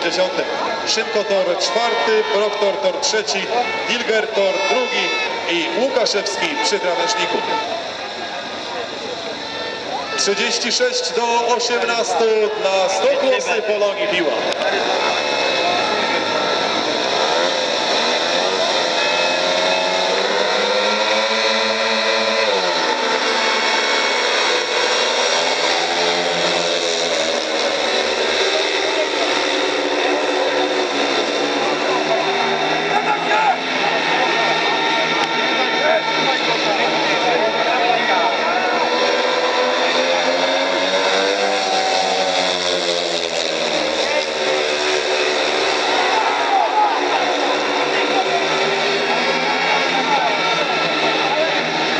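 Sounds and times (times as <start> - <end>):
motorcycle engines racing: 0.0 - 51.9.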